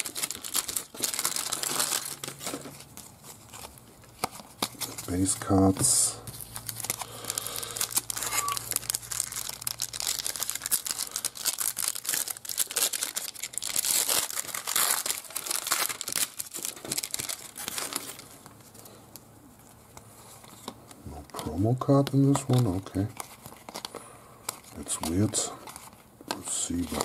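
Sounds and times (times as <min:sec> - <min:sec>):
foil wrapper crinkling and tearing: 0:00.0 - 0:18.9, 0:21.4 - 0:27.0.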